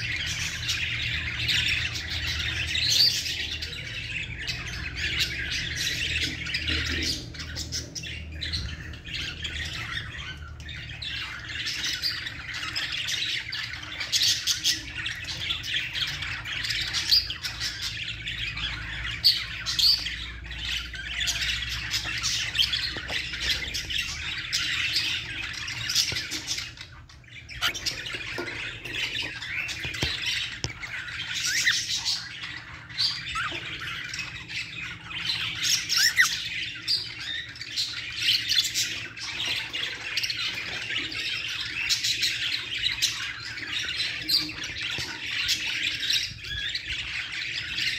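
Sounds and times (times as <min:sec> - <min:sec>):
cockatiels chattering and squawking: 0:00.0 - 0:47.9.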